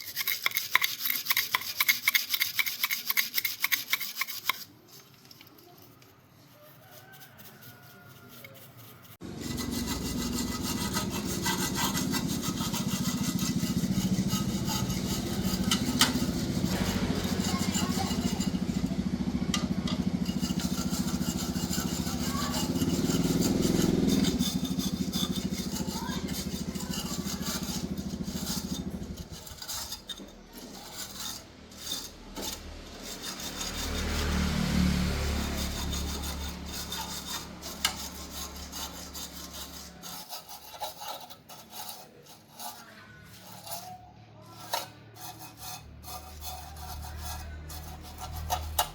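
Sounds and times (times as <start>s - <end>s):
mechanical rubbing and scraping: 0.0s - 48.9s.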